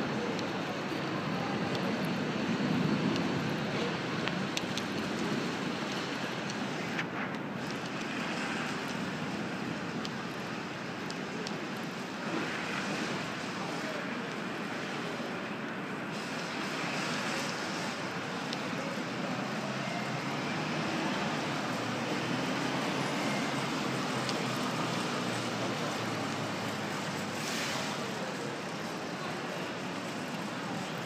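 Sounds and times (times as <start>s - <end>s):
rumble of vehicles and engines: 0.0s - 31.0s.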